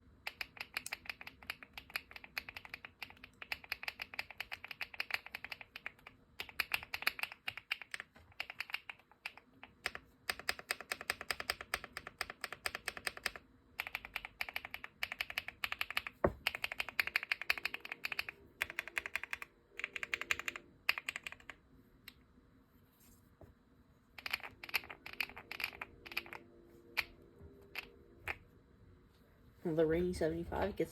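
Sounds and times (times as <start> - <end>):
mechanical keyboard typing: 0.1 - 21.7, 24.1 - 28.4.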